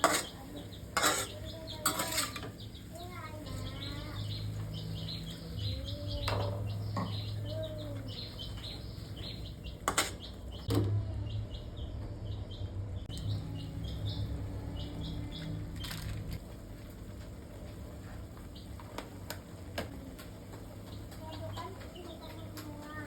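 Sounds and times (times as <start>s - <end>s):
small birds chirping: 0.0s - 16.4s, 17.1s - 23.0s
steady low hum: 0.0s - 23.0s.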